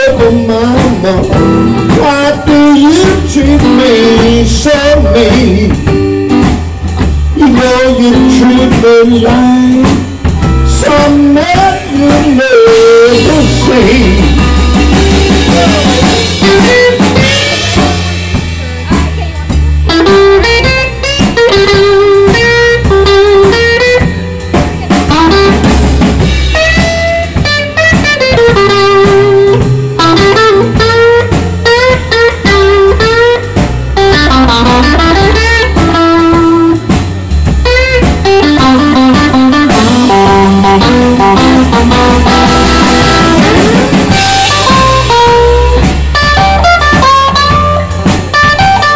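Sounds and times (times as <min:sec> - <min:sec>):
drum kit: 0:00.0 - 0:48.9
electric bass: 0:00.0 - 0:48.9
electric guitar lead: 0:00.0 - 0:48.9.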